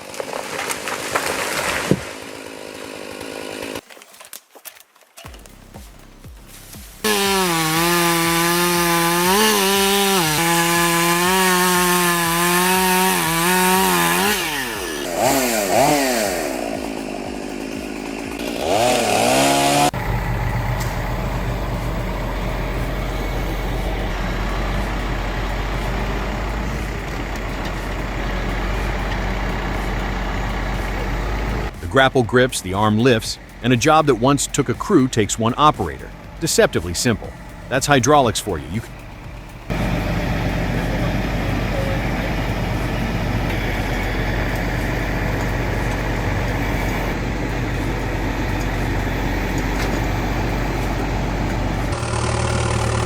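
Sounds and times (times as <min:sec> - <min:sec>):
chainsaw revving: 0:01.0 - 0:03.8, 0:07.0 - 0:32.1, 0:32.8 - 0:53.0
low engine drone: 0:09.2 - 0:53.0.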